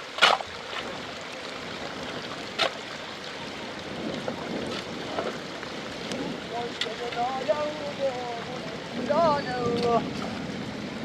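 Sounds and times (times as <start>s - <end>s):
steady water noise: 0.0s - 11.0s.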